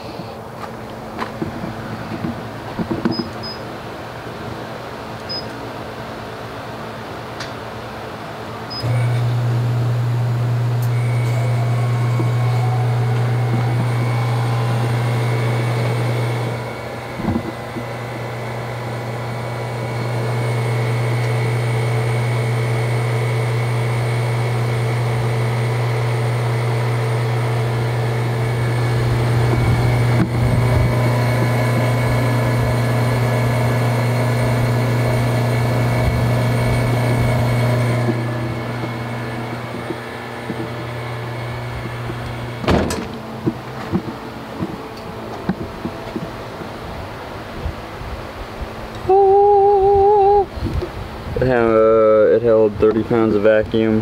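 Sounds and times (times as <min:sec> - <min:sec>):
vacuum pump humming: 0:00.0 - 0:54.0.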